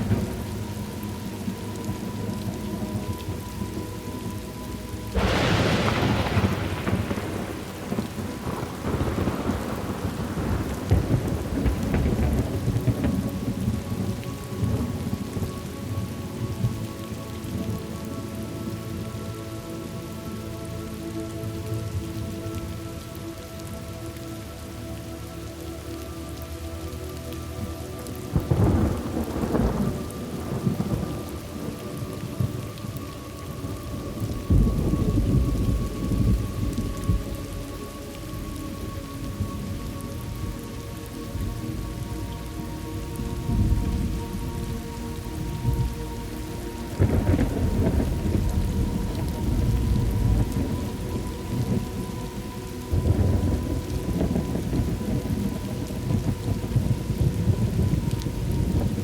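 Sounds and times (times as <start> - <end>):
rolling thunder: 0.0 - 4.3, 5.0 - 17.8, 27.7 - 59.0
steady rain falling: 0.0 - 59.0.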